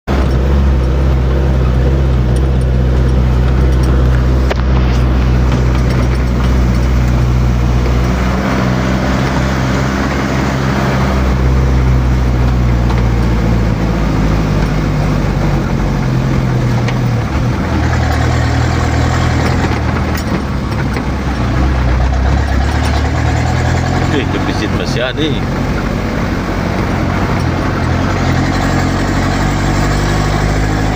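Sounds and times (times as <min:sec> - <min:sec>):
road or wind noise: 0:00.0 - 0:30.9
vehicle engine running: 0:00.1 - 0:30.9.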